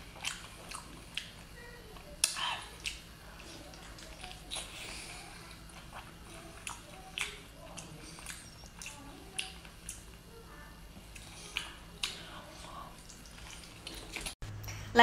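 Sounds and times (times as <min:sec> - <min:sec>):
chewing food: 0:00.0 - 0:10.3, 0:10.9 - 0:14.4
chewing with wet mouth smacks: 0:00.1 - 0:10.3, 0:11.0 - 0:14.4.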